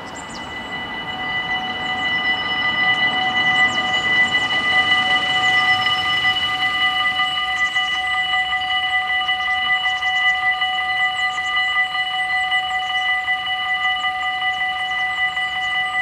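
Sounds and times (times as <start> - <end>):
level-crossing warning bells: 0.0 - 16.0.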